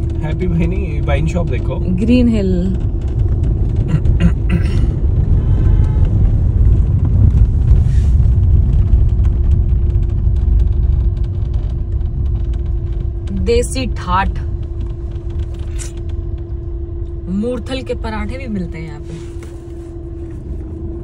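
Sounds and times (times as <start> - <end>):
car driving on unpaved road: 0.0 - 21.0
steady hum: 0.0 - 21.0.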